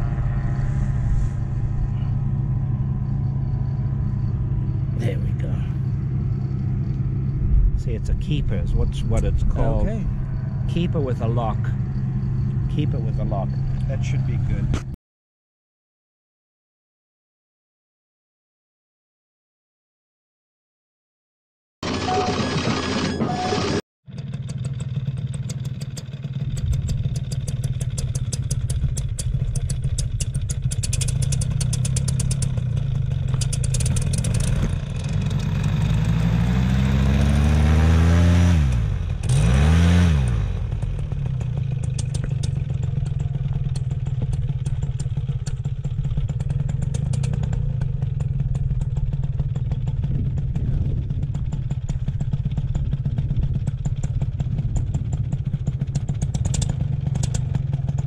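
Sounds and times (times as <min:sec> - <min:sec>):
paramotor engine idling and revving: 0:00.0 - 0:15.0, 0:21.9 - 0:58.0.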